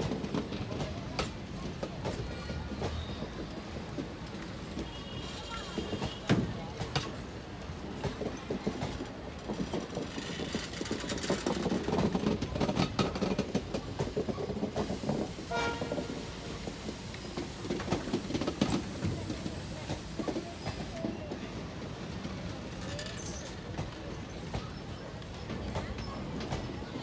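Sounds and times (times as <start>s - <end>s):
train coaches rumbling: 0.0s - 27.0s
train wheels clicking over rail joints: 0.0s - 27.0s.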